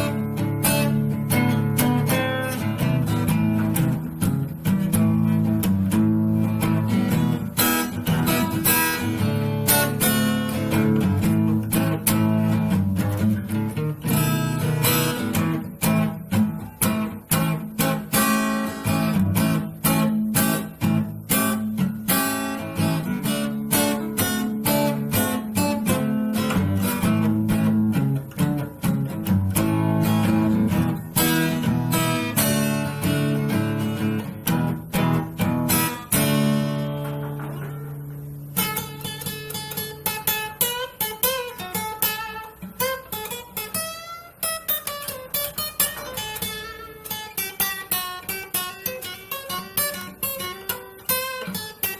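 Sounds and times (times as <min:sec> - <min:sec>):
acoustic guitar strumming: 0:00.0 - 0:51.9
guitar notes picked with slides: 0:00.0 - 0:51.9.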